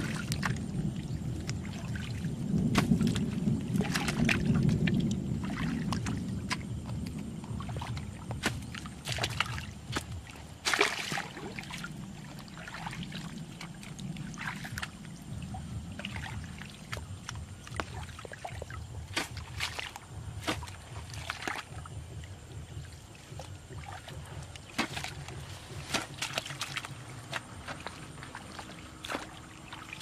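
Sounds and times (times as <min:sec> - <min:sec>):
low rumble: 0:00.0 - 0:10.6, 0:11.2 - 0:29.9
muddy water splashing and sloshing: 0:00.0 - 0:30.0.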